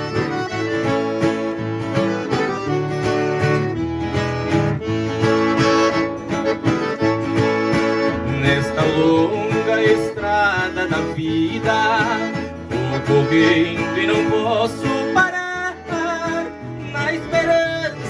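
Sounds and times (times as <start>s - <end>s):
accordion: 0.0s - 18.0s
plucked guitars: 0.0s - 18.0s.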